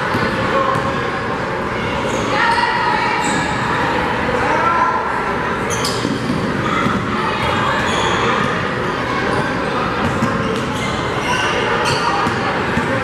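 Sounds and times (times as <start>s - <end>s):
crowd chatter echoing: 0.0s - 13.0s.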